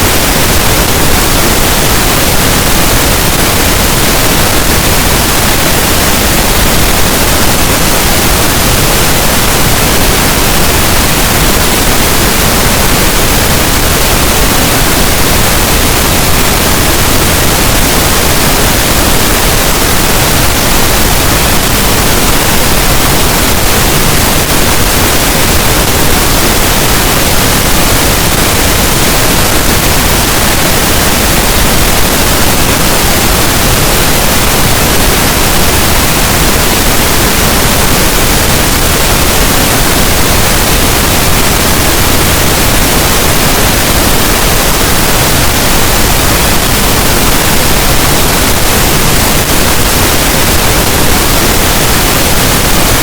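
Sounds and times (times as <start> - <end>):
loud pink noise hiss: 0.0 - 53.0.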